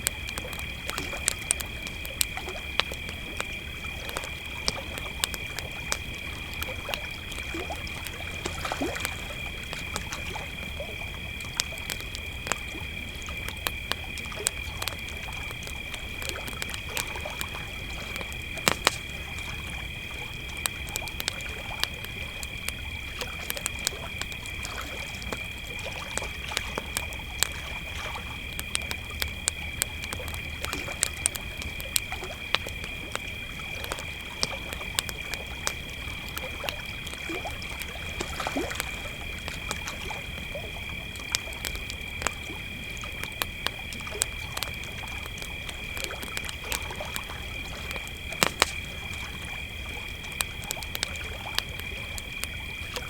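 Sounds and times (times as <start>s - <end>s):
campfire crackling and popping: 0.0s - 53.0s
crickets trilling: 0.0s - 53.0s.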